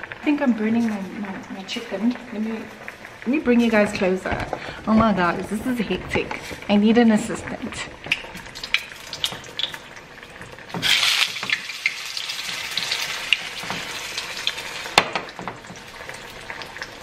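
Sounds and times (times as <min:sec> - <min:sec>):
chicken sizzling in a frying pan: 0:00.0 - 0:17.0.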